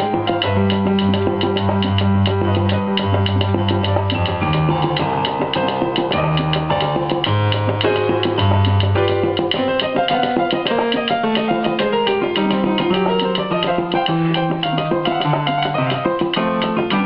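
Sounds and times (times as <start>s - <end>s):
instrumental salsa music: 0.0s - 17.0s.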